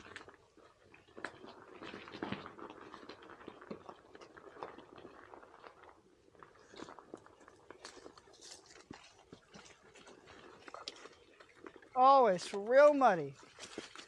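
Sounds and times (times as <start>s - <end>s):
bicycle tyres crunching through mud: 0.0s - 14.0s.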